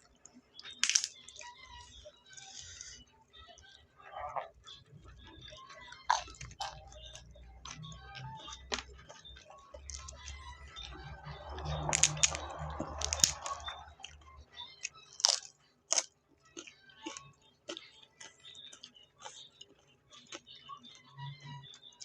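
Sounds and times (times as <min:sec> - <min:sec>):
chewing and smacking: 0:00.0 - 0:22.0.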